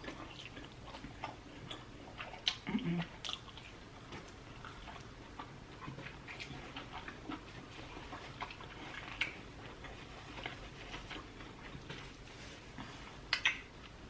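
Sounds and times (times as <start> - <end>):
close chewing with wet mouth clicks: 0.0 - 14.0.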